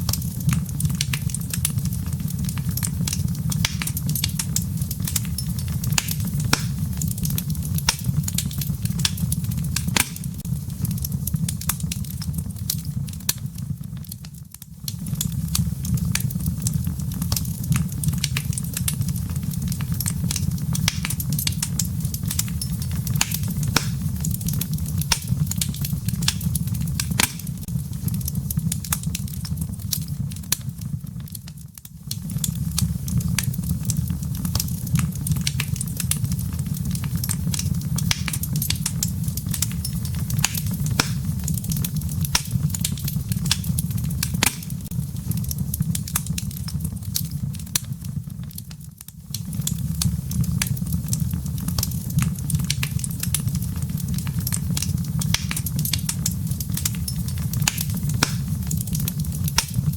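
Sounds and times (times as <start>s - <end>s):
firewood crackling and popping: 0.0s - 59.9s
low rumble of flame: 0.0s - 59.9s.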